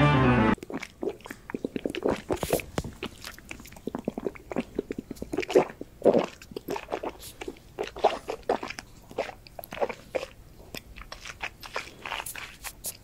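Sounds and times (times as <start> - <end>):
kitten lapping water: 0.6 - 13.0.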